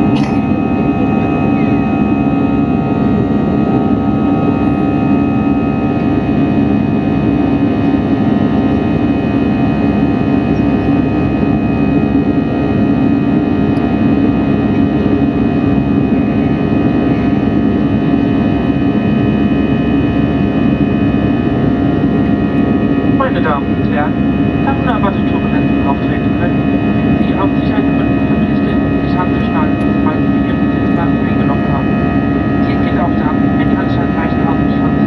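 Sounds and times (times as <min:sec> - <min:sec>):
jet engine rumble in cabin: 0:00.0 - 0:35.0.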